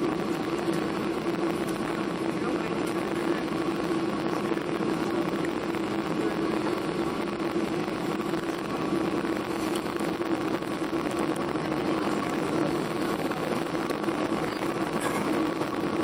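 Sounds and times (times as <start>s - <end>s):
airplane cabin drone: 0.0s - 16.0s
steady low hum: 0.0s - 16.0s.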